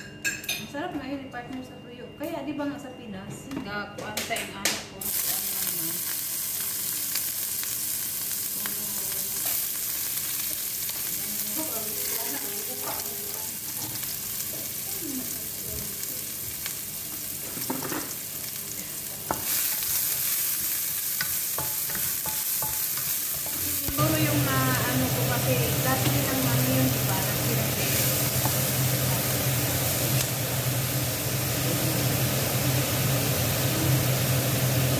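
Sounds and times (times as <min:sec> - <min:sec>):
food sizzling in a pan: 0:05.0 - 0:34.9.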